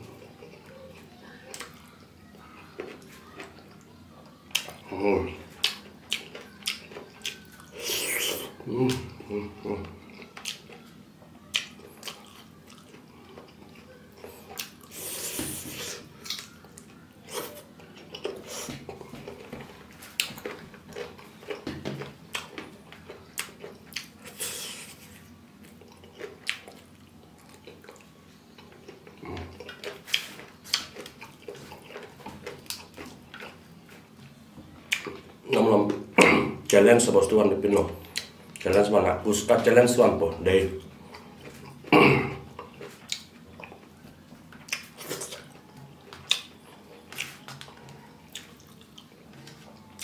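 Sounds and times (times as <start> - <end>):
chewing and mouth clicks: 0.2 - 9.2, 9.8 - 36.0, 37.8 - 38.9, 40.3 - 50.0.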